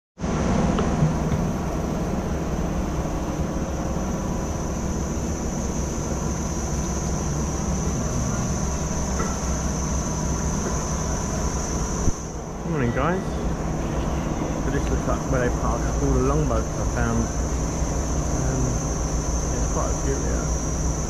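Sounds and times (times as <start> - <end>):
engine rumble: 0.2 - 21.0
high-pitched whine: 0.2 - 21.0.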